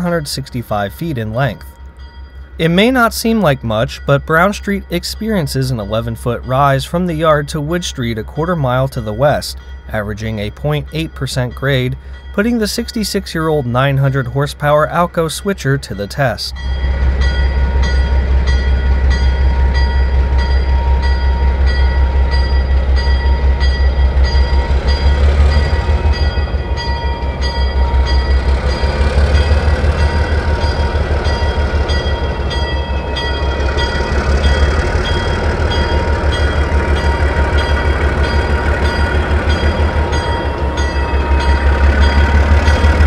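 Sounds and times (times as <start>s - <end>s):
diesel locomotive chugging: 0.0s - 43.0s.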